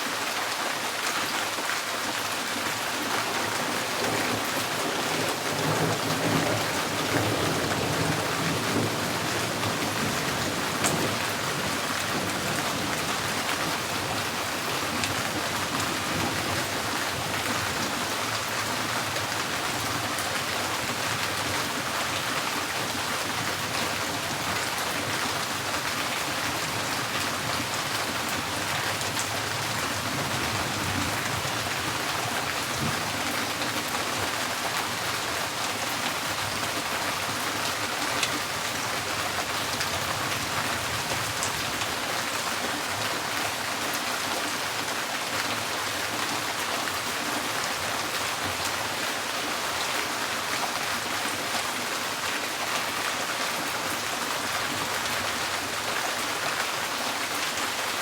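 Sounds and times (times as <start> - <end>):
rain drumming on a tin roof: 0.0 - 58.0.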